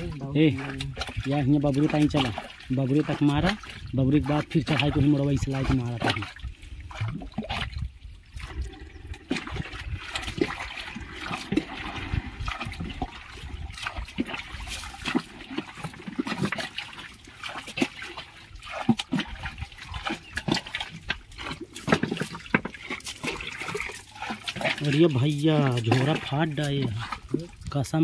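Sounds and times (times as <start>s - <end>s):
drips clicks and knocks: 0.0s - 28.0s
water splashing around a boat: 0.0s - 28.0s.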